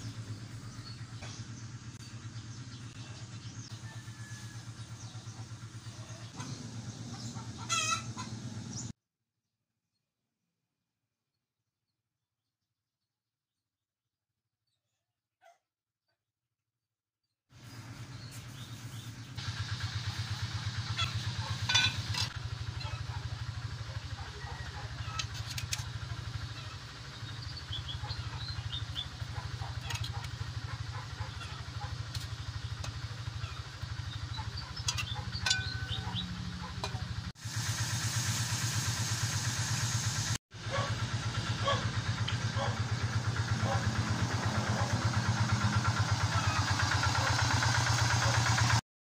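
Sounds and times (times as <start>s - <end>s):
small engine running: 0.0s - 8.9s, 17.6s - 48.8s.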